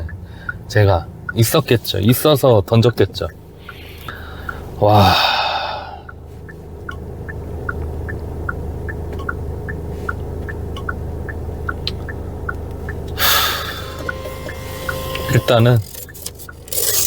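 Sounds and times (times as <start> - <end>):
engine hum and road noise: 0.0 - 17.0
turn signal clicking: 0.0 - 17.0.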